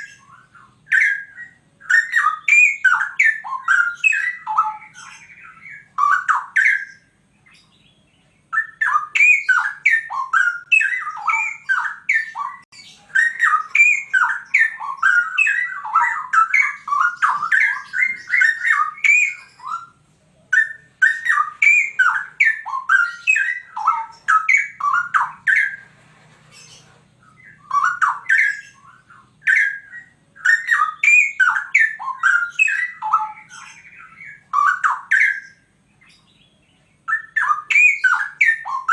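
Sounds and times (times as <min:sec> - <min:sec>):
bird singing whistled notes: 0:00.0 - 0:25.8, 0:26.6 - 0:38.9.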